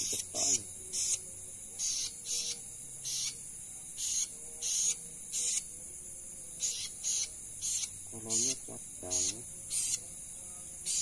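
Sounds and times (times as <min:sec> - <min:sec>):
crickets trilling: 0:00.0 - 0:11.0
short insect chirp: 0:00.0 - 0:11.0.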